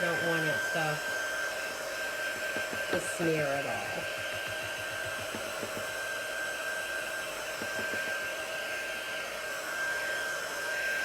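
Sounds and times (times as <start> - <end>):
blow dryer running: 0.0 - 11.0.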